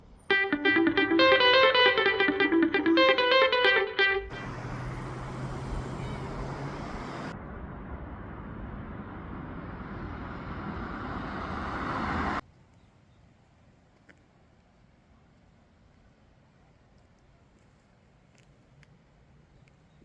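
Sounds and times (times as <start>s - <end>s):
rushing outdoor background noise: 0.0s - 20.0s.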